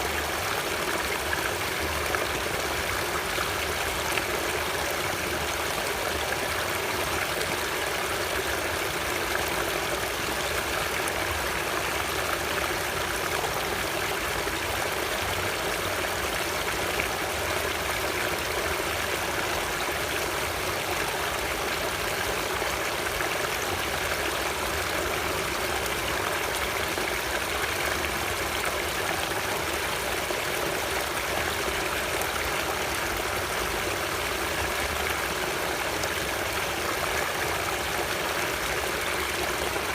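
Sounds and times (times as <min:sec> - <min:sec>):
water rushing steadily: 0:00.0 - 0:39.9.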